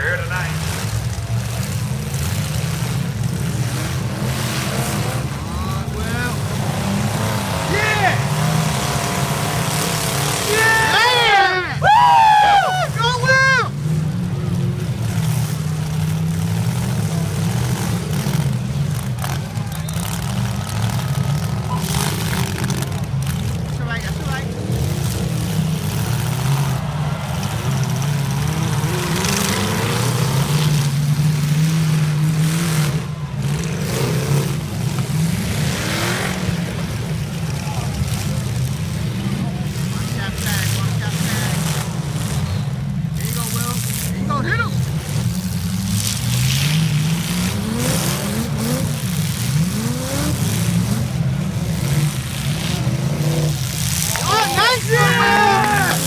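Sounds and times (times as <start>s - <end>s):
car engines revving hard: 0.0s - 56.0s.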